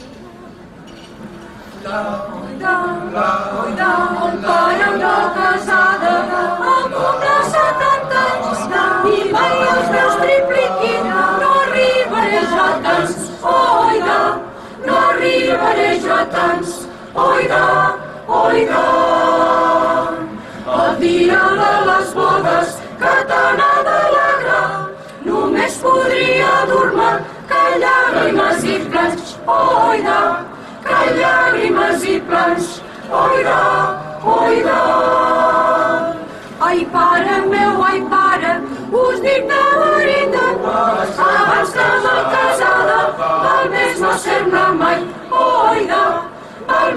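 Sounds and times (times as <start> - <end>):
mixed choir singing a cappella: 1.5 - 46.9.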